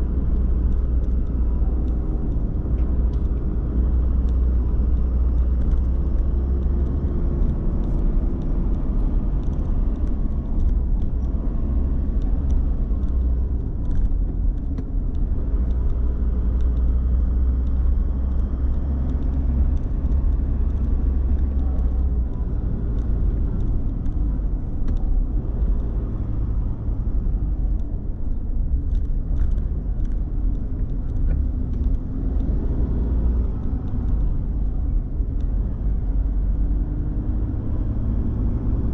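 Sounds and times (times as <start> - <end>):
car engine and road noise: 0.0 - 38.9
faint light ticks: 0.2 - 38.8.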